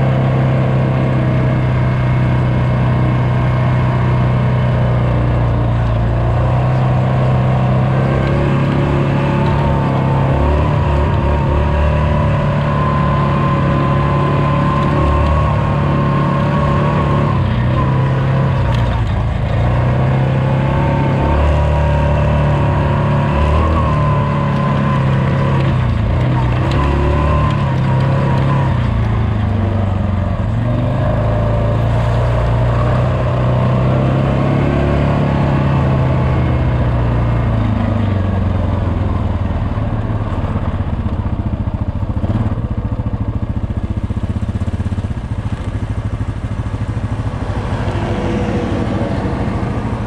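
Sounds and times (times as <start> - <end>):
engine revving: 0.0 - 41.1, 42.0 - 42.8, 43.5 - 50.0.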